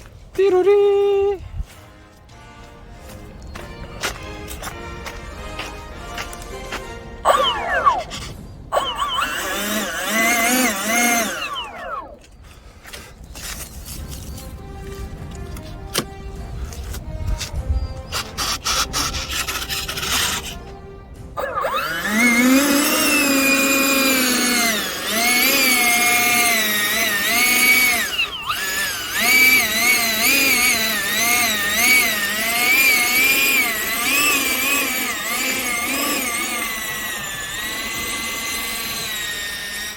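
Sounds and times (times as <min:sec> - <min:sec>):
electric ducted fan whining: 0:07.2 - 0:39.9.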